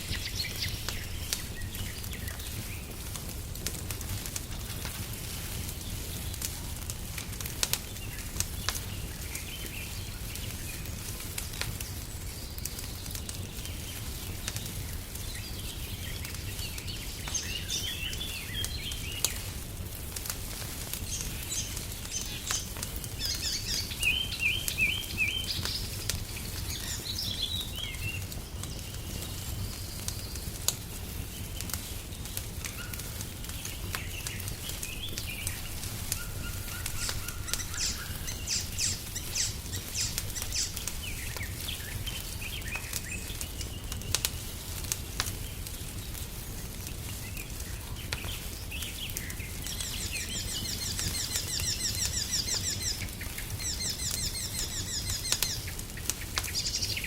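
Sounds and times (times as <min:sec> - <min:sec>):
songbirds chirping: 0:00.0 - 0:57.0
wood fire crackling: 0:00.0 - 0:57.0.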